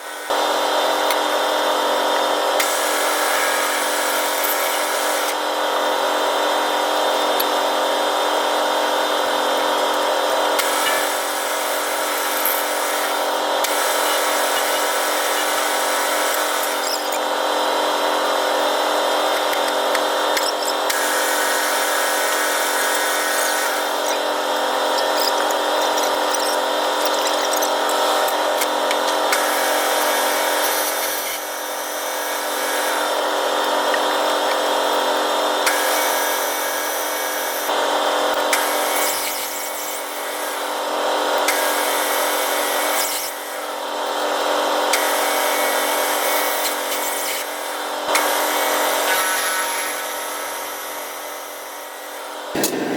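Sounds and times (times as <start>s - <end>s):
metal lathe whining: 0.0s - 52.9s.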